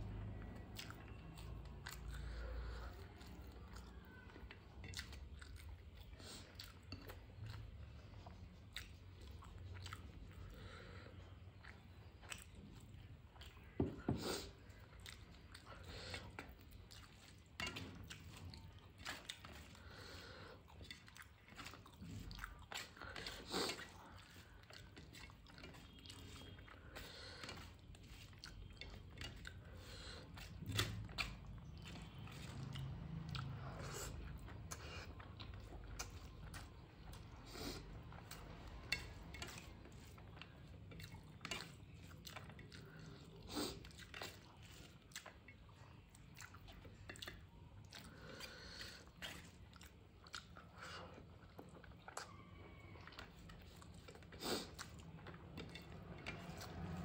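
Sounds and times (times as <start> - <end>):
close chewing and mouth smacks: 0.0 - 57.0.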